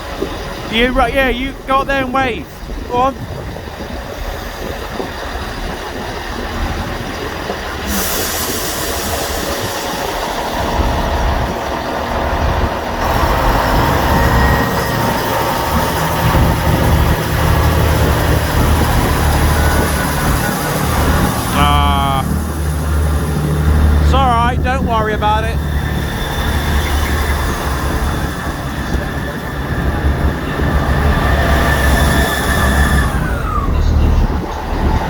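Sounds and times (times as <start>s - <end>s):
diesel train engine rumble: 0.0s - 35.0s
transmission whine: 0.0s - 35.0s.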